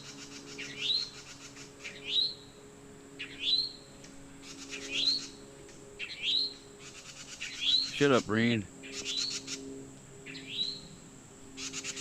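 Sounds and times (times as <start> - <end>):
songbird calling rising note: 0.0 - 2.6, 3.2 - 12.0.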